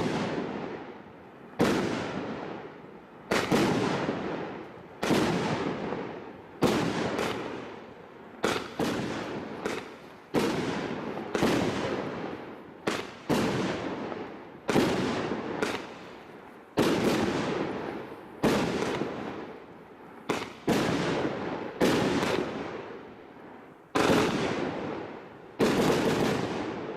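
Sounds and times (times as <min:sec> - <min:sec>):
firework bangs: 0:00.0 - 0:26.9.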